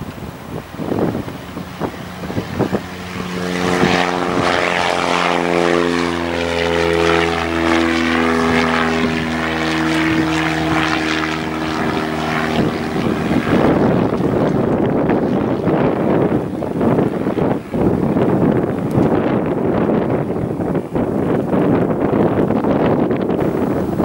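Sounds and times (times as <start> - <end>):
propeller plane engine drone: 0.0 - 24.0
wind buffeting microphone: 0.0 - 24.0.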